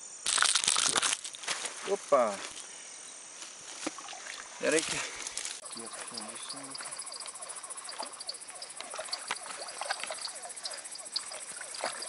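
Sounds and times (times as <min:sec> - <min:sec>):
frogs calling: 0:00.0 - 0:12.0
insect trill: 0:00.0 - 0:12.0.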